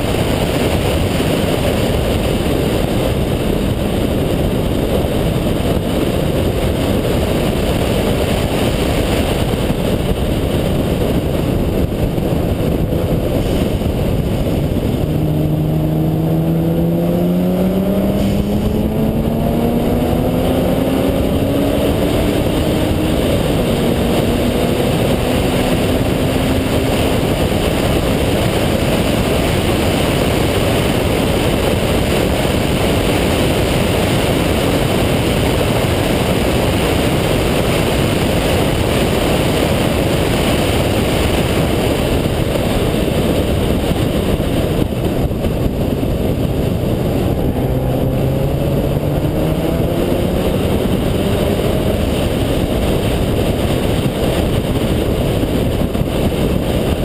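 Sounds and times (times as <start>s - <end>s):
rotary engine at speed: 0.0s - 57.0s
wind and road noise: 0.0s - 57.0s.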